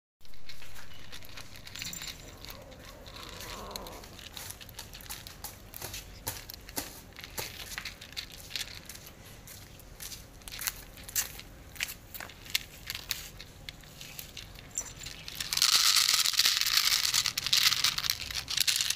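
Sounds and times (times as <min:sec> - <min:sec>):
cats crunching dry kibble: 0:00.2 - 0:18.9.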